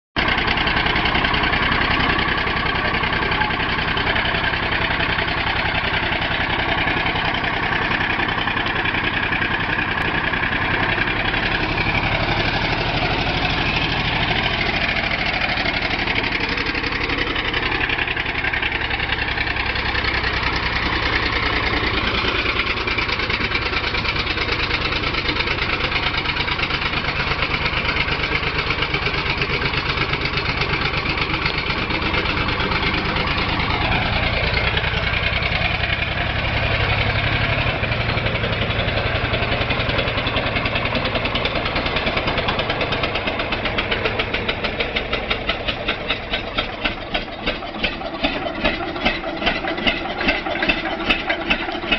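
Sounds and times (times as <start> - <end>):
diesel engine idling: 0.2 - 51.9.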